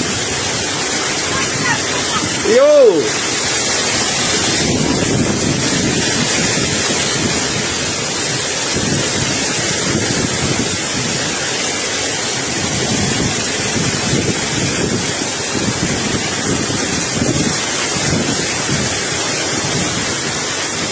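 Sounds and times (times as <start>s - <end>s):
strong wind buffeting microphone: 0.0s - 20.9s.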